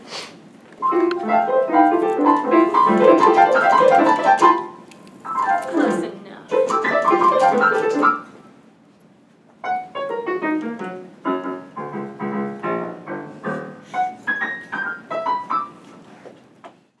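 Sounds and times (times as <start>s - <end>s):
piano notes and chords: 0.8s - 8.5s, 9.6s - 16.1s.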